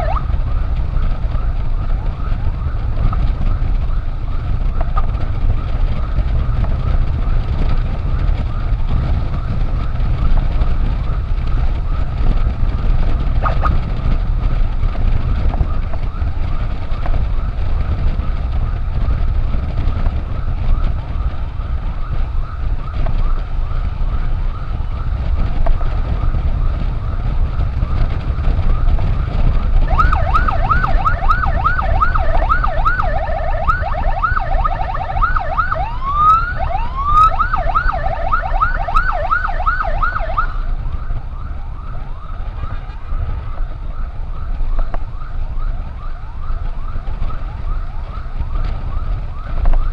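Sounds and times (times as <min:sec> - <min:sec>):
electronic emergency siren: 0:00.0 - 0:49.9
vehicle rumble: 0:00.0 - 0:49.9.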